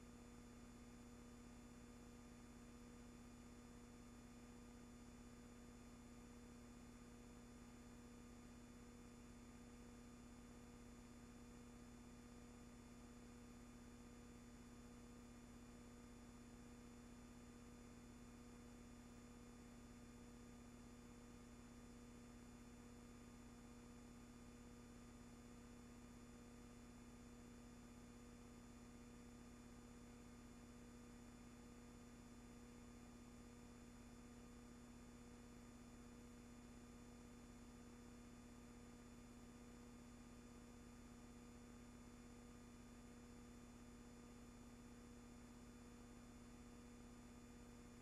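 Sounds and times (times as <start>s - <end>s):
faint electrical hum and hiss: 0.0s - 48.0s.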